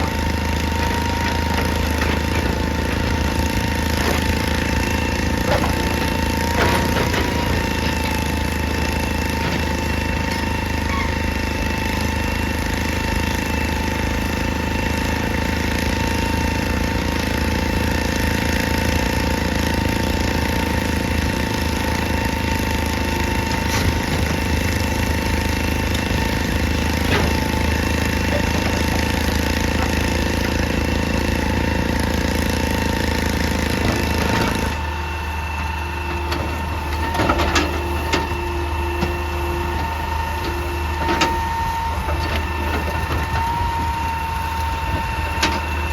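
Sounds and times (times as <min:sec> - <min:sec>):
diesel engine running under load: 0:00.0 - 0:45.9
hydraulic whine: 0:00.0 - 0:45.9.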